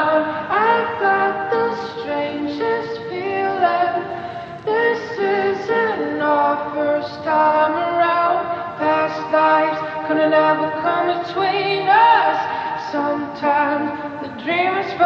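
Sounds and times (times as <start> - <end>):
layered vocal harmonies: 0.0 - 15.0
woman singing pop song: 0.0 - 15.0.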